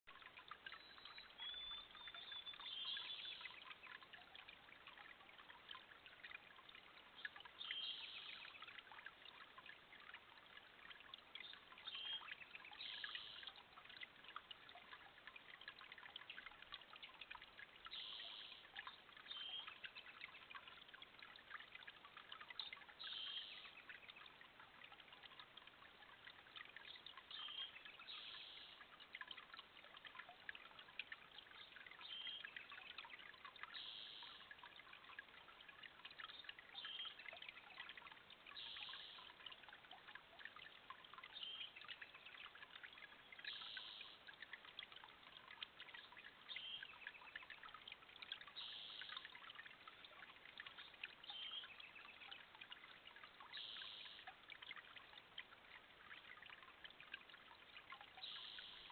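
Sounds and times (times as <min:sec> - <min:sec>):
trickling water: 0:00.0 - 0:58.9.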